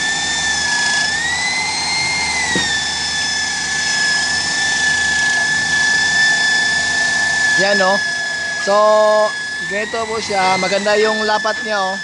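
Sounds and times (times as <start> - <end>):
power tool motor whining: 0.0 - 12.0.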